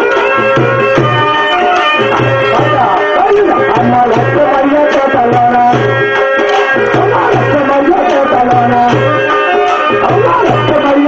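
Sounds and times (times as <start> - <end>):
frame drum beating: 0.0 - 11.0
wavering folk melody: 0.0 - 11.0.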